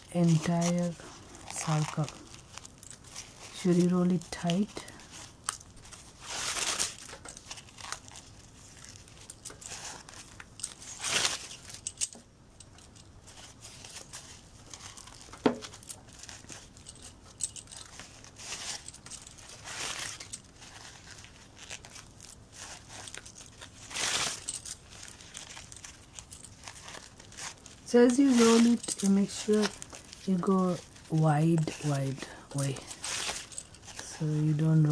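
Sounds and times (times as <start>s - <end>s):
fabric strip rustling: 0.0s - 34.9s.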